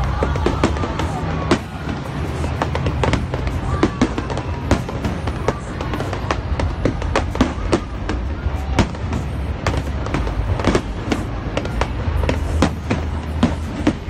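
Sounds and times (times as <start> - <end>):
fireworks bangs and crackles: 0.0 - 14.0
steady low rumble: 0.0 - 14.0.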